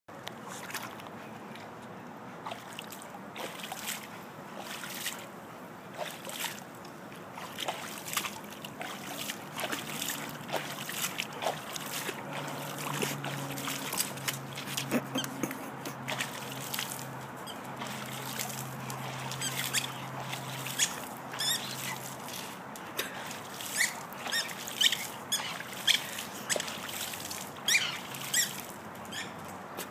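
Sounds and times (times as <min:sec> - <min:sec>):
low steady hum: 0:00.1 - 0:29.9
pool water splashing: 0:00.1 - 0:29.9.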